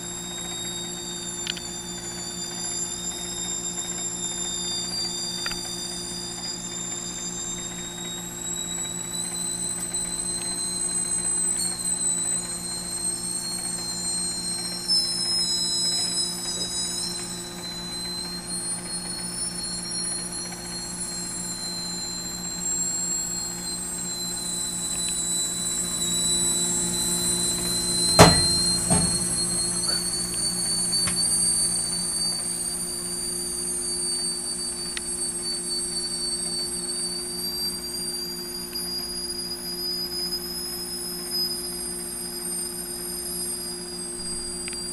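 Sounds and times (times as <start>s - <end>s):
microwave oven humming: 0.0s - 44.9s
potato whistling: 0.5s - 41.7s.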